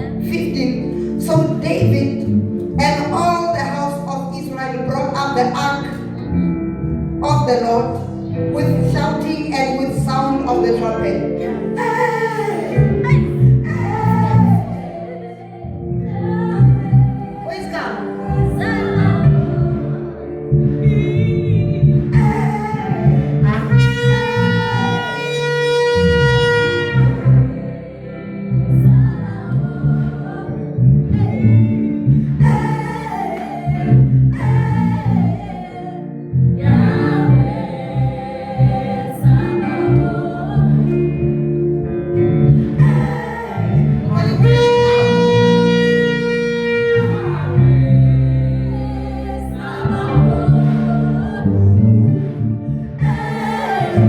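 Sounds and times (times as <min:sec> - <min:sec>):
gospel worship music: 0:00.0 - 0:54.0
steady bass: 0:00.0 - 0:54.0
voices singing: 0:08.6 - 0:54.0.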